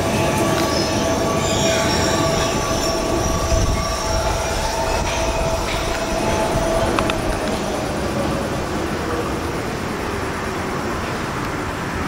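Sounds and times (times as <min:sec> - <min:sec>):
high wheel squeal: 0:00.0 - 0:12.0
metro train rumbling: 0:00.0 - 0:12.0.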